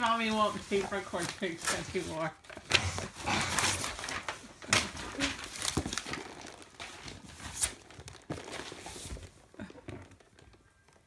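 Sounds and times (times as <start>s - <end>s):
paper and cardboard crinkling: 0.0s - 11.0s.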